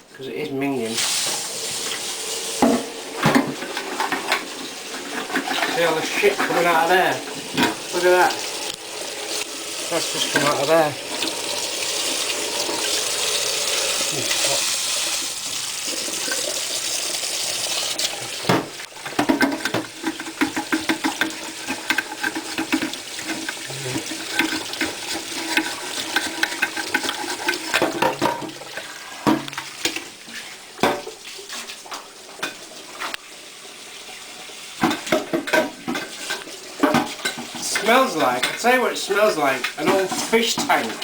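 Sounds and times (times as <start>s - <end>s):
tap water running: 0.2s - 41.0s.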